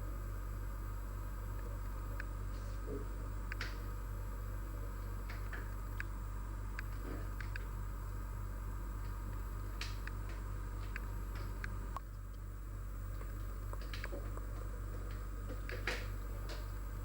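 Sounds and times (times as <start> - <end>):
electrical hum: 0.0 - 17.0
faint high whine: 0.0 - 17.0.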